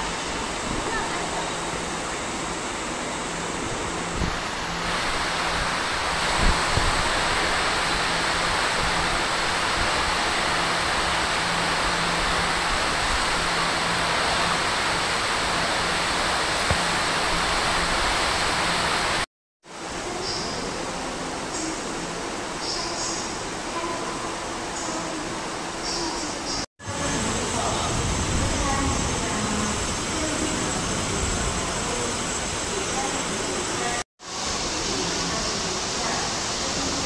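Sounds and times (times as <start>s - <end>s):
heavy rain pouring: 0.0s - 22.6s, 26.8s - 37.0s.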